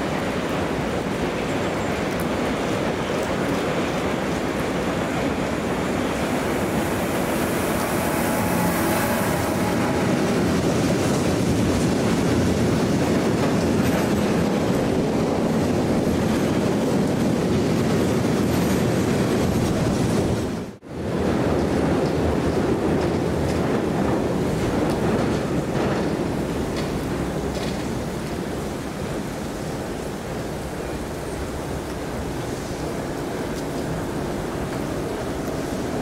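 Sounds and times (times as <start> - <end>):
train wheels running on rails: 0.0 - 36.0.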